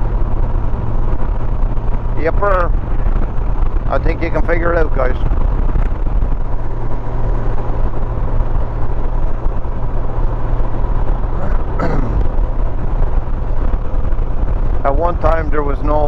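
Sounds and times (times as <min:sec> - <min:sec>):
motorcycle engine rumble: 0:00.0 - 0:16.0
wind and road noise: 0:00.0 - 0:16.0.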